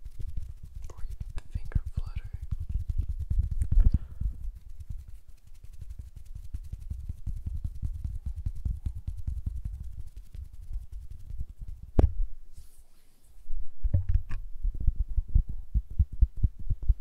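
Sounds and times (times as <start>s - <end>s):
fingers brushing near microphone: 0.0s - 14.0s.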